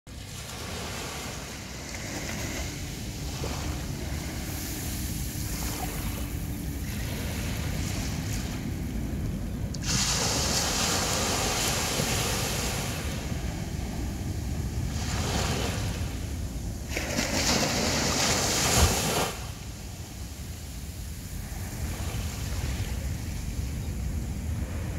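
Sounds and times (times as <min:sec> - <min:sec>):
sea surf washing onto beach: 0:00.1 - 0:24.9.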